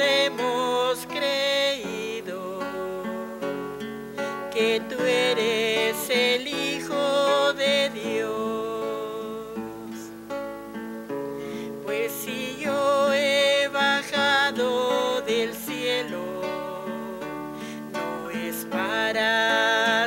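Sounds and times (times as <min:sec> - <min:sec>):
woman singing a hymn: 0:00.0 - 0:10.3, 0:11.4 - 0:20.0
acoustic guitar strumming chords: 0:00.0 - 0:20.0.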